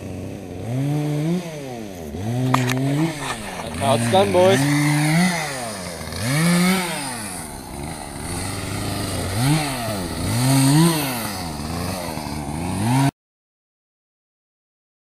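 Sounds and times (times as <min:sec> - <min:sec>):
chainsaw revving: 0:00.0 - 0:13.1.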